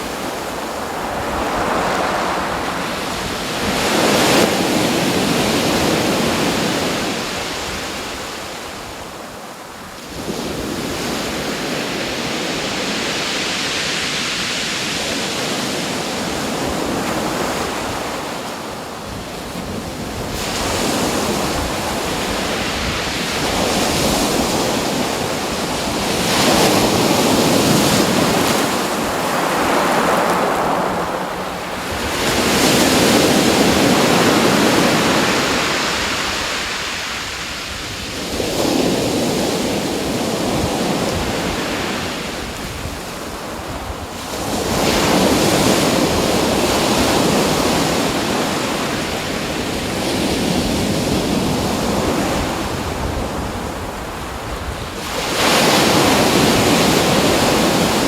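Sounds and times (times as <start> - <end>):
waves washing in: 0.0 - 9.0, 10.0 - 58.0.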